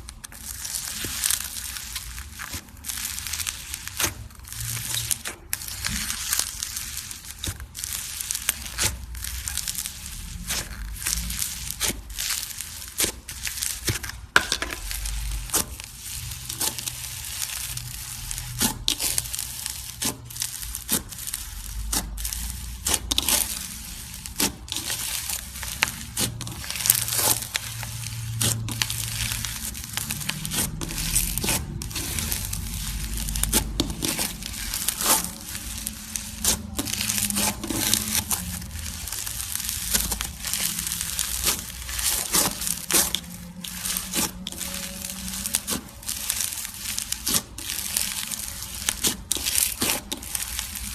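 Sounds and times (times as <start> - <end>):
slime squeezed by hand: 0.1 - 50.9.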